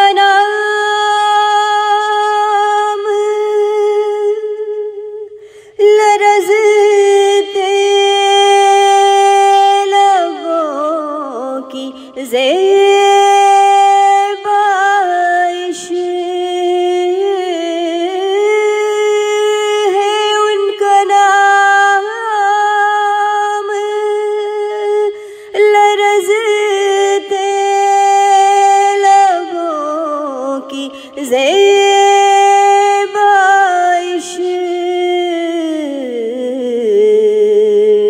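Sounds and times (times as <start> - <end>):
woman singing: 0.0 - 38.0.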